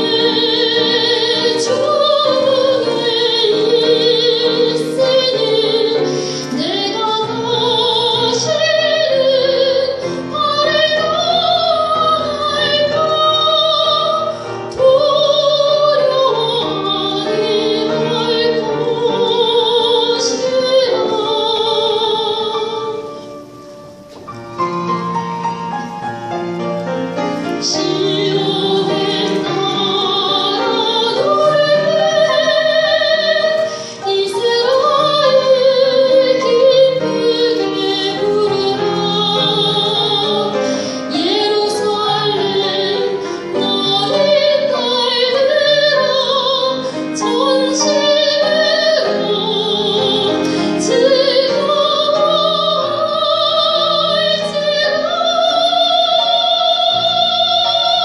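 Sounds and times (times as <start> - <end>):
soprano singing with vibrato: 0.0 - 24.0, 27.4 - 58.0
grand piano accompaniment: 0.0 - 58.0.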